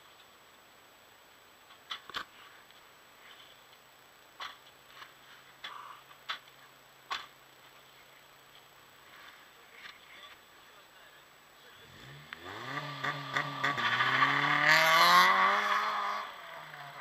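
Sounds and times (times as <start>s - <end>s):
faint low hum: 0.0s - 13.8s.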